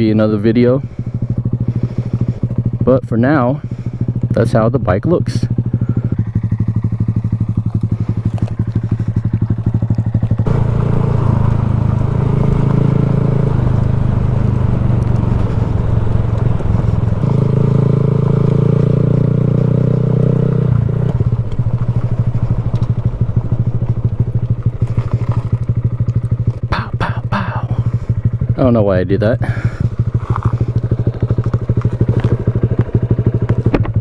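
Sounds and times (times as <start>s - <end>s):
motorcycle engine puttering: 0.0s - 34.0s.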